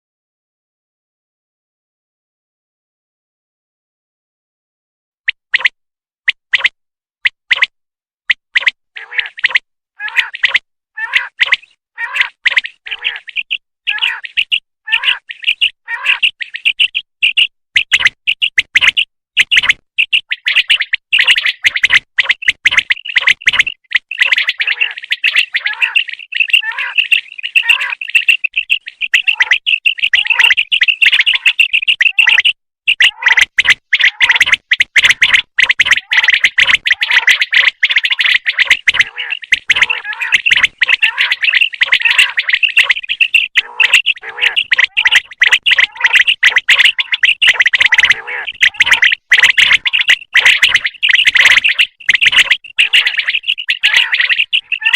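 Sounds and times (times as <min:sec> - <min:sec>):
quails calling: 0:08.6 - 0:54.9.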